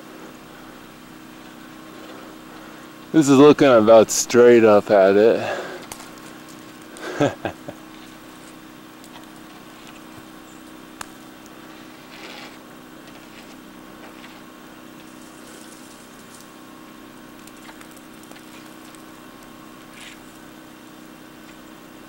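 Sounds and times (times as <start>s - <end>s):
steady hiss and low hum: 0.0s - 22.0s.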